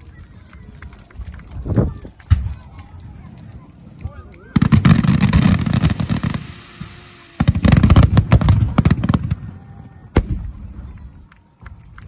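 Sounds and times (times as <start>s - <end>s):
fireworks cracking: 1.1s - 12.0s.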